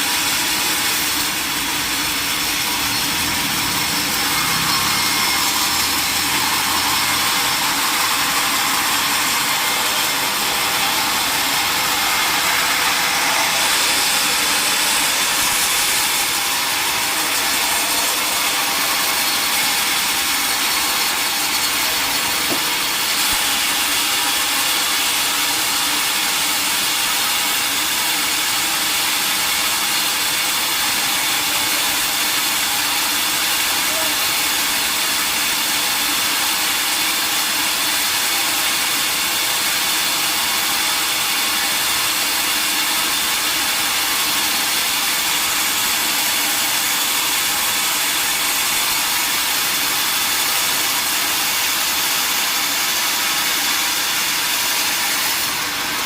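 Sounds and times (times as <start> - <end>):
saw blade hissing through log: 0.0 - 29.1, 30.8 - 56.0.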